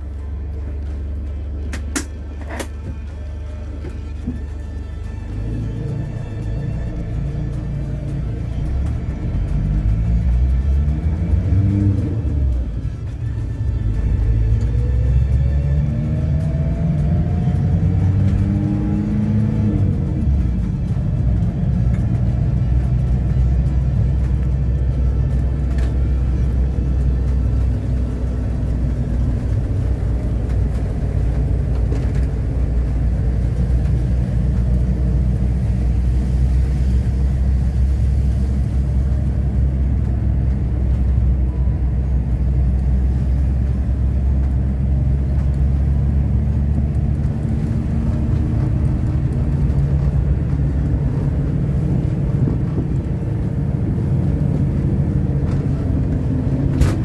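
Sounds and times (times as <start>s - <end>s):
pickup truck engine running: 0.0s - 57.0s.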